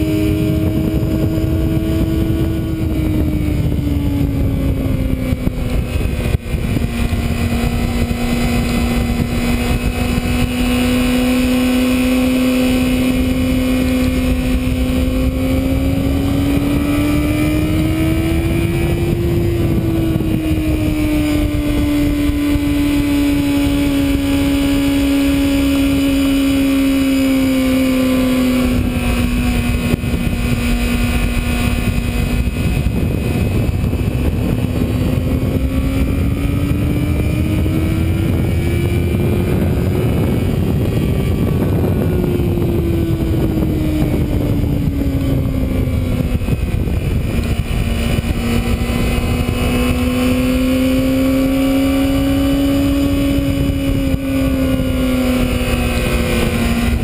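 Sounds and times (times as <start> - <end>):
motorcycle engine revving: 0.0 - 57.0
rush of wind noise: 0.0 - 57.0.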